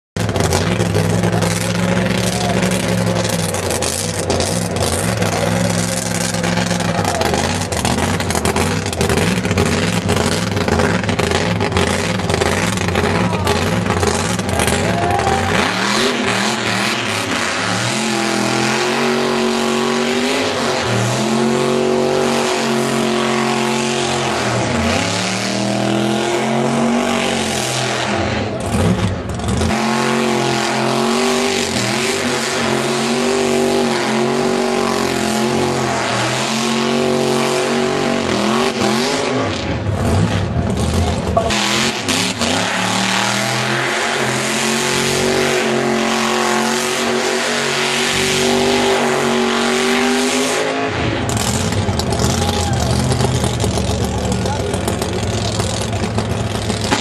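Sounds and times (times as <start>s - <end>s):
car engine revving: 0.2s - 57.0s.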